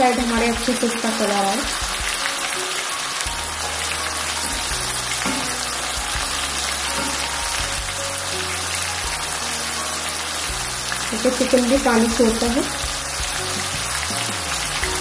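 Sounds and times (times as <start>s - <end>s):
chicken sizzling in oil: 0.0s - 15.0s
soft background music: 0.0s - 15.0s.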